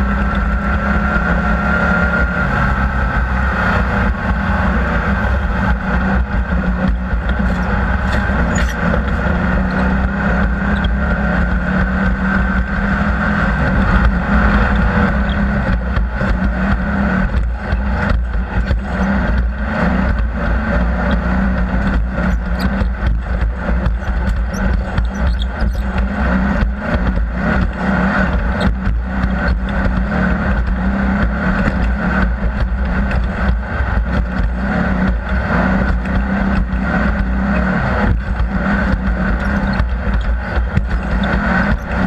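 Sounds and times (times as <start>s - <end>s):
off-road vehicle engine running: 0.0s - 42.0s
knocks and rattles: 5.1s - 42.0s.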